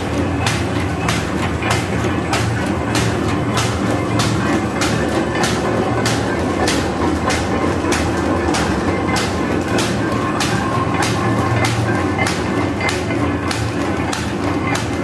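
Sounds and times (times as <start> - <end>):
paper bag machine humming: 0.0 - 15.0
sharp machine clack: 0.0 - 15.0.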